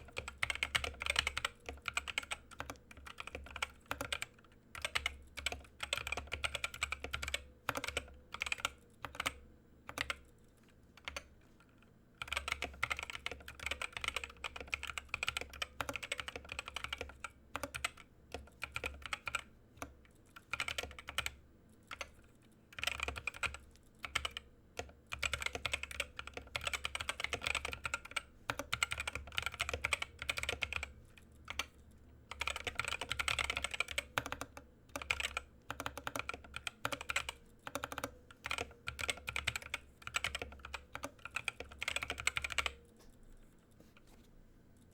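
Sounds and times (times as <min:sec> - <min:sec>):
mechanical keyboard typing: 0:00.0 - 0:43.6.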